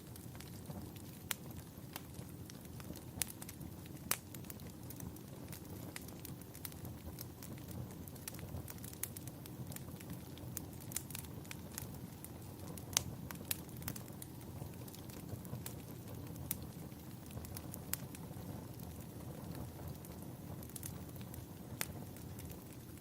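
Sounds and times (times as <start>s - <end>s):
low fire rumble: 0.0s - 23.0s
wood fire crackling: 0.0s - 23.0s.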